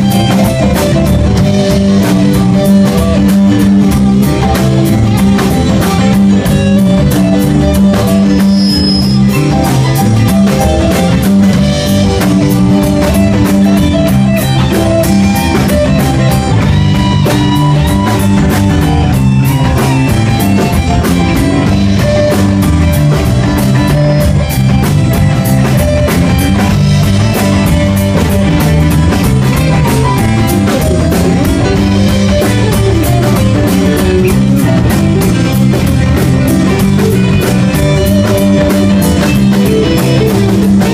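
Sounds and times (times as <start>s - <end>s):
drum kit beat: 0.0s - 40.9s
electric guitar: 0.0s - 40.9s.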